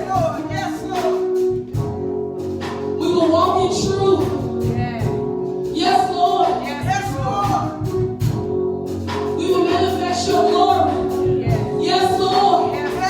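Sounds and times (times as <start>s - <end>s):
gospel singing: 0.0s - 13.0s
held instrumental chords: 0.0s - 13.0s
pulsing low beat: 0.0s - 13.0s.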